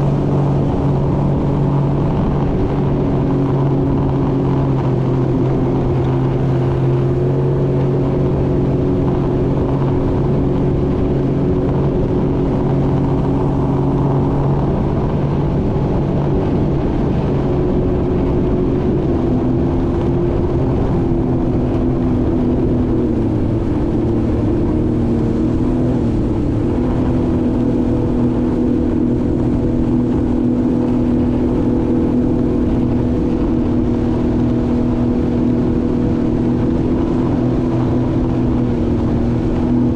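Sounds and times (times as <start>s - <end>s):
jet ski engine running: 0.0s - 39.9s
water and wind noise: 0.0s - 39.9s.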